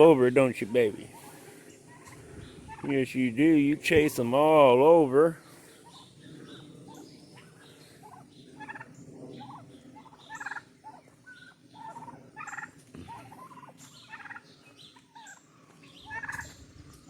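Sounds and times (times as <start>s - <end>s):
turkeys gobbling: 0.0s - 16.9s.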